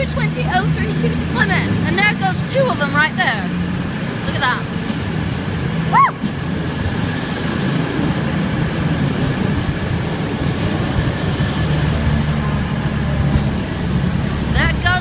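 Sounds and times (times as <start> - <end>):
diesel train engines droning: 0.0 - 15.0.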